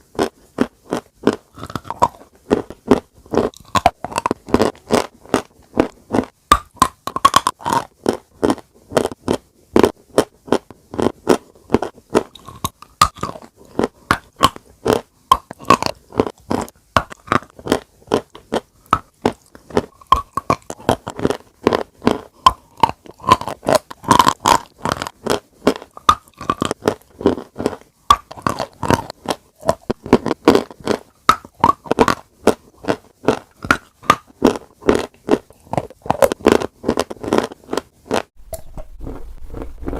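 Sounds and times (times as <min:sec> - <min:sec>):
chalk being chewed: 0:00.1 - 0:39.9.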